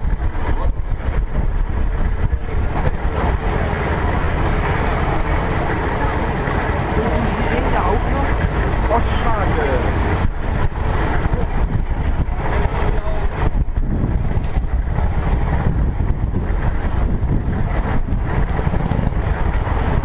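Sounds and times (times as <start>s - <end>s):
car engine running: 0.0s - 20.0s
dense low rumble: 0.0s - 20.0s.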